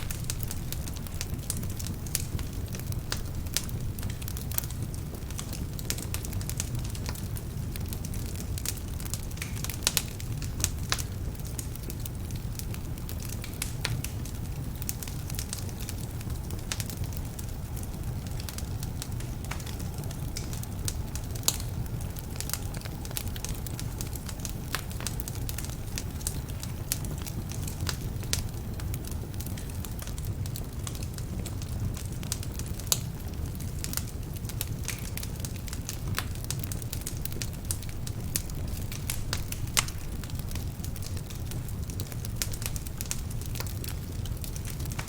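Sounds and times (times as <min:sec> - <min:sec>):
loud pops from fire: 0:00.0 - 0:45.0
low rumble of flame: 0:00.0 - 0:45.0
wood fire crackling: 0:00.0 - 0:45.0.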